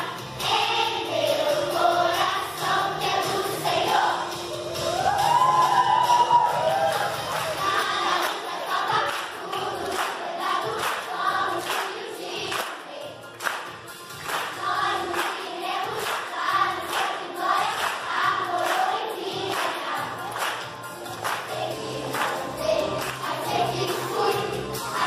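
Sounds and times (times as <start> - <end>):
children's choir singing: 0.0 - 4.6, 5.6 - 25.0.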